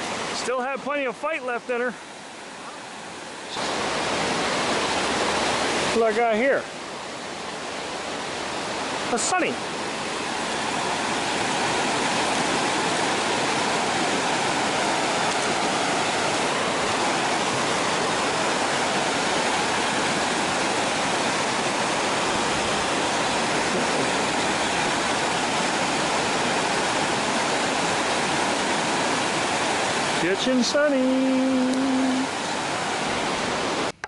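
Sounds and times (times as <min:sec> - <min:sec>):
creek water rushing over weir: 0:00.0 - 0:34.0.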